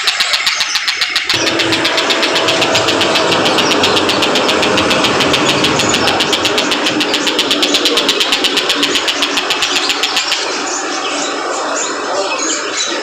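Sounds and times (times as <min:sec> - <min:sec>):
kingfisher calling: 0:00.0 - 0:13.0
rumbling noise: 0:01.3 - 0:12.0.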